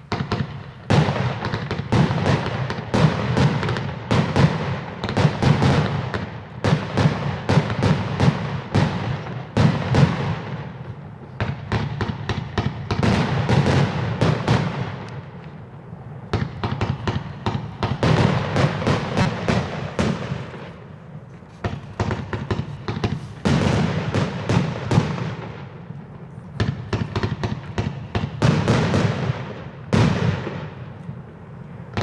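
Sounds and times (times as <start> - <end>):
firework bangs and cracks: 0.0 - 32.0.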